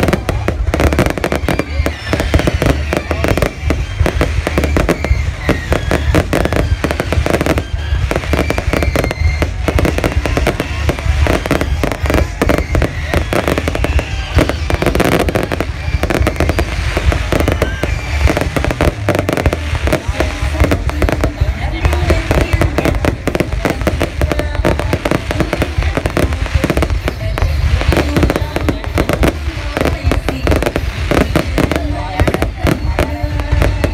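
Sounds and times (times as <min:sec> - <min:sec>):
fireworks bangs and crackles: 0:00.0 - 0:33.9.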